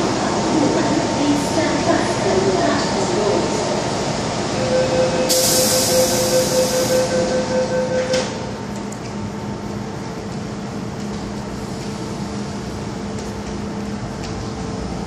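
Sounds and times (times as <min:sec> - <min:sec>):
standing train hum: 0:00.0 - 0:15.0.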